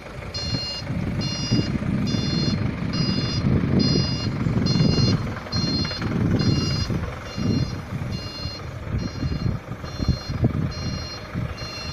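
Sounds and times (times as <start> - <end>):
diesel engine running: 0.0 - 11.9
reversing alarm beeping: 0.3 - 11.9.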